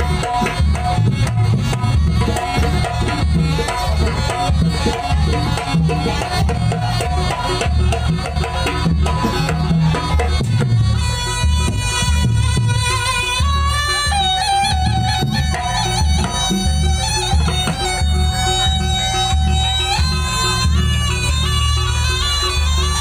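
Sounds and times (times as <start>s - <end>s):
hand drums beating: 0.0s - 23.0s
reedy wind instrument: 0.0s - 23.0s.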